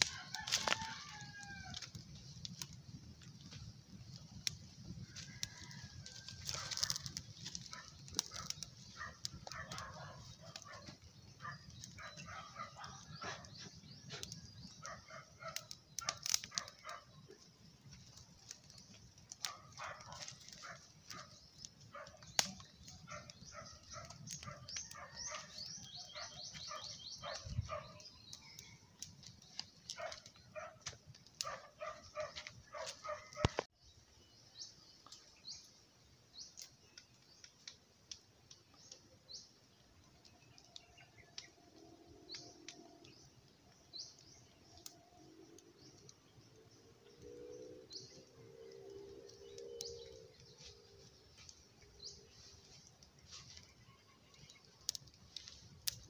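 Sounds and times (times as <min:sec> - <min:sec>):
wood fire crackling and popping: 0:00.0 - 0:33.9, 0:34.6 - 0:56.0
birds chirping: 0:00.0 - 0:56.0.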